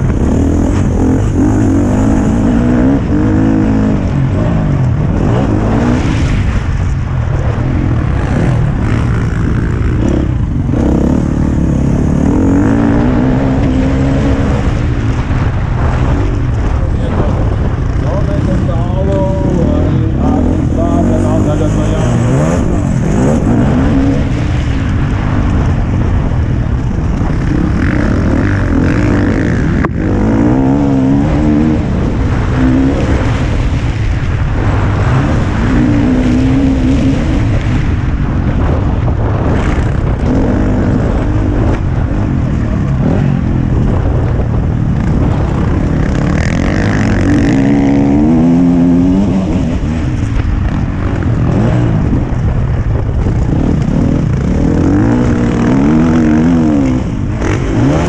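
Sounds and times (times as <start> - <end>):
motocross bike engine revving: 0.0 - 58.0
wind rush on microphone: 0.0 - 58.0.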